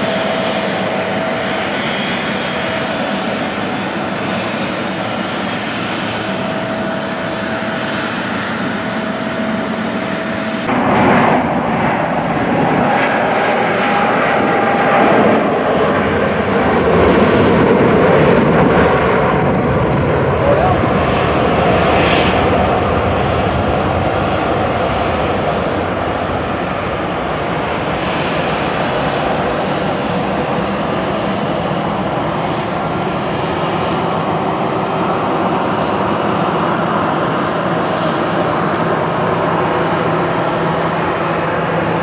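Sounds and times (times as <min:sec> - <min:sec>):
jet engines at takeoff: 0:00.0 - 0:42.0.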